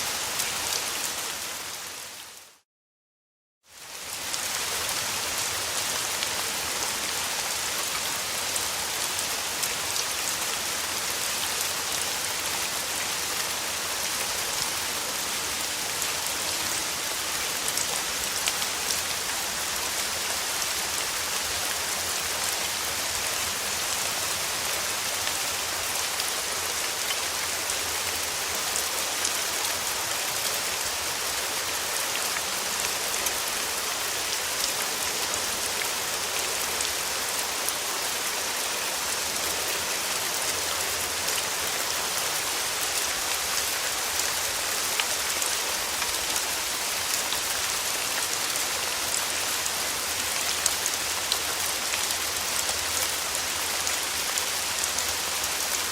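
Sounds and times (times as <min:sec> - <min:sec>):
rain falling: 0:00.0 - 0:02.6, 0:03.7 - 0:55.9.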